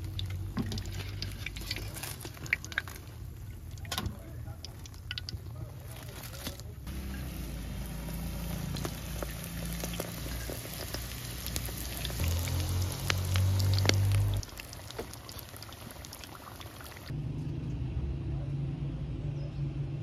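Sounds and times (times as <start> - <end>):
oil bubbling and crackling: 0.0 - 17.2.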